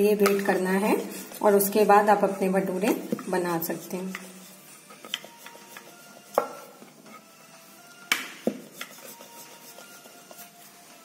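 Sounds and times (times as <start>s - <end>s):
rolling pin rolling dough: 0.2s - 11.0s.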